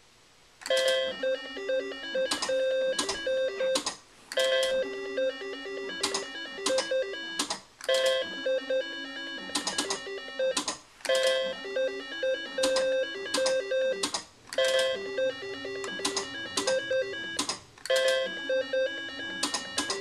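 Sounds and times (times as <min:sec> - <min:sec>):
slot machine reels clunking: 0:00.6 - 0:20.0
slot machine beeping tune: 0:00.7 - 0:03.8, 0:04.4 - 0:20.0.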